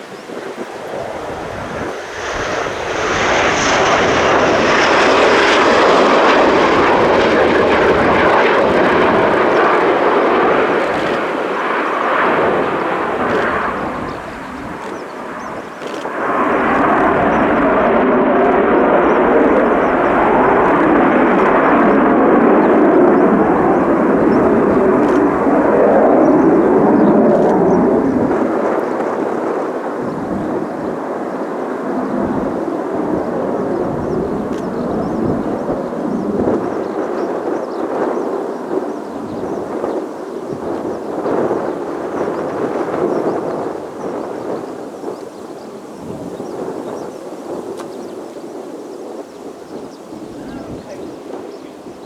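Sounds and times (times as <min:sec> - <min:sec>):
jet engines passing: 0:00.0 - 0:52.0.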